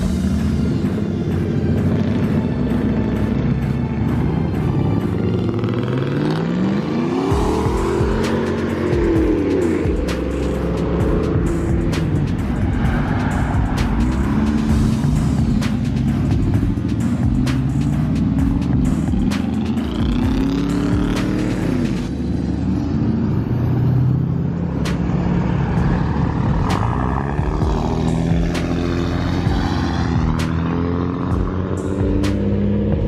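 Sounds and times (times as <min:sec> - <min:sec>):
music playing: 0:00.0 - 0:33.0
vehicle engine driving off: 0:00.0 - 0:33.0.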